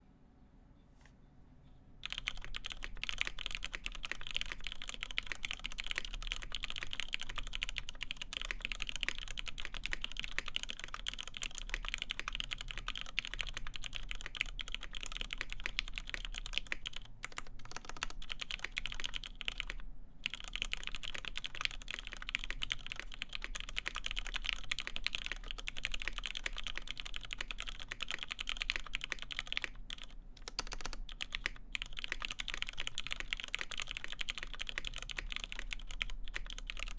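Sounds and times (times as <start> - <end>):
typing on mechanical keyboard: 2.0 - 36.9.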